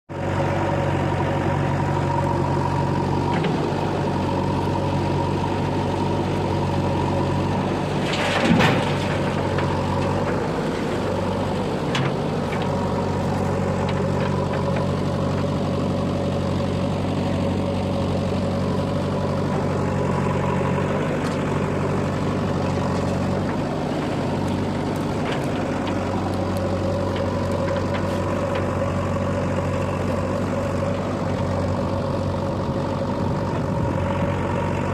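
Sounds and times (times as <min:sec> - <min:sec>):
diesel machinery engine running: 0:00.1 - 0:34.9.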